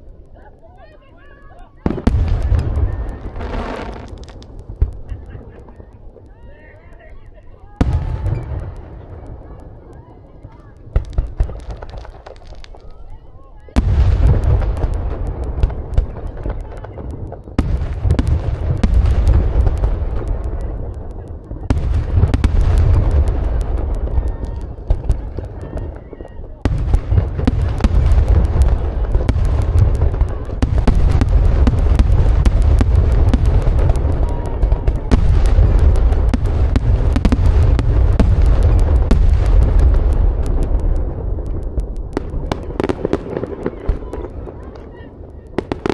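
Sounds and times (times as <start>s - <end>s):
fireworks cracks and bangs: 0.0s - 45.9s
rumble of bursting shells: 1.8s - 6.4s, 7.8s - 13.0s, 13.7s - 45.9s.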